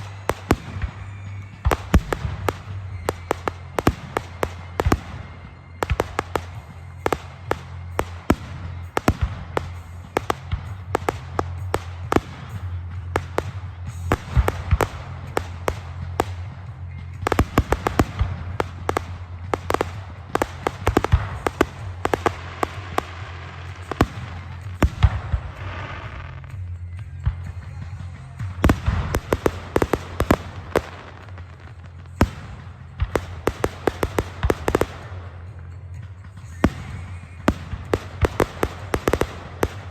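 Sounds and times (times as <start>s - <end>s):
fireworks popping and banging: 0.0s - 39.9s.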